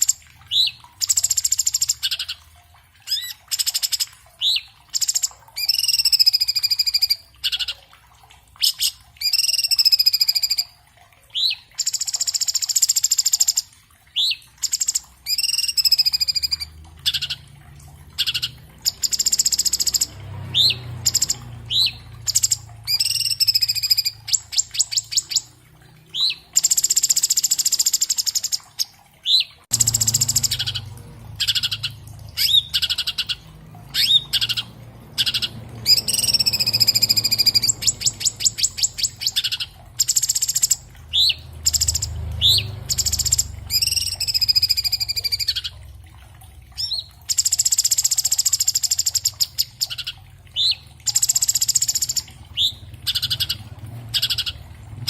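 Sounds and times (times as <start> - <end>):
bird trill of ticking notes: 0.0 - 55.0.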